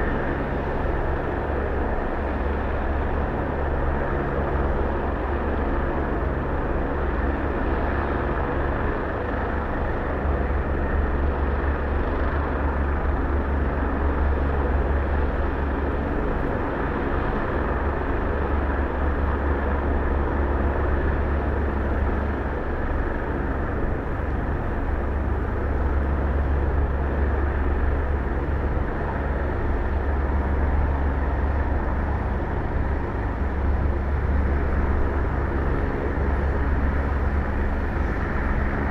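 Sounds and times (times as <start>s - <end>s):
helicopter rotor hum: 0.0s - 38.9s
helicopter turbine engine noise: 0.0s - 38.9s.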